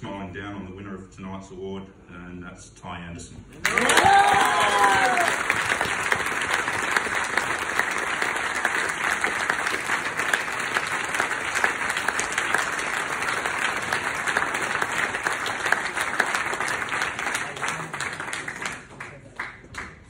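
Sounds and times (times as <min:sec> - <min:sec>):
audience applauding: 0:03.6 - 0:20.0.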